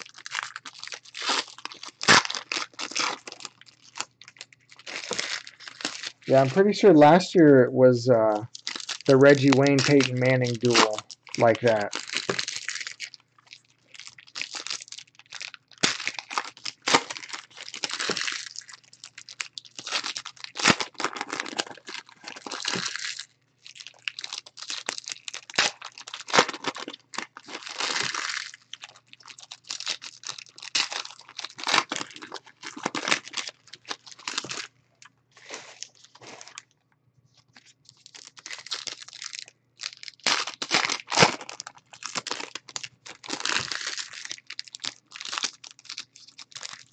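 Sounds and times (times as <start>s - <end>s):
foil wrappers torn and crinkled: 0.0s - 6.8s, 8.5s - 36.7s, 37.4s - 46.9s.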